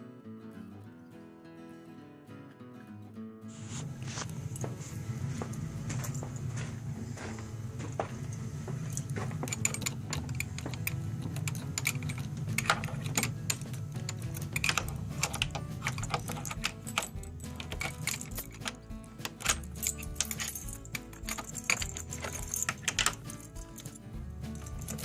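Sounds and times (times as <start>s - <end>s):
background music with bass line: 3.6s - 25.0s.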